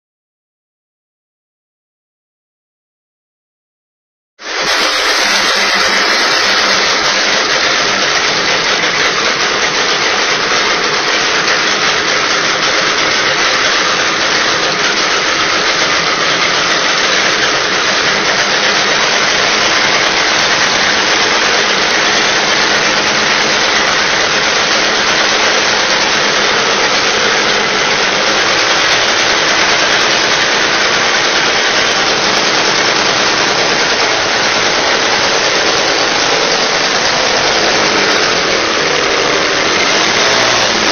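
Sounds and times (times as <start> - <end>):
two-stroke aircraft engine running: 4.4 - 40.9.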